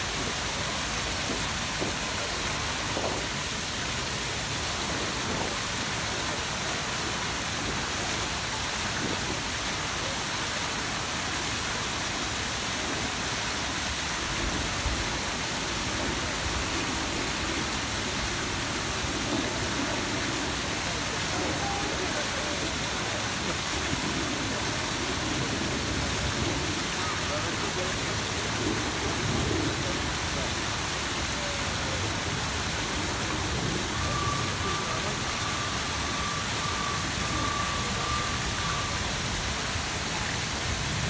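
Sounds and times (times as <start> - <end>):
fountain water splashing: 0.0 - 41.0.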